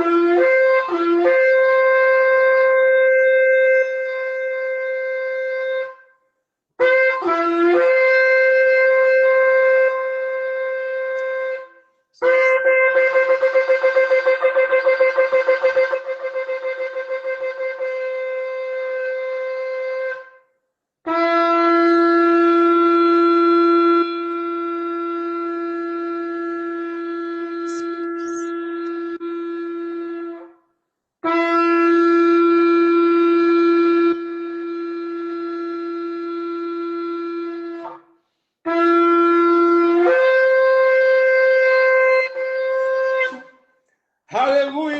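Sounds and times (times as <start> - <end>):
shofar blasts: 0.0 - 6.1, 6.8 - 20.4, 21.1 - 43.7.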